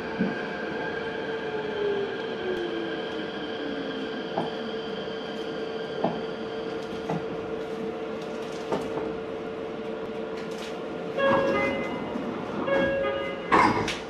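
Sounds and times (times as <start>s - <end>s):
train rolling noise: 0.0s - 14.0s.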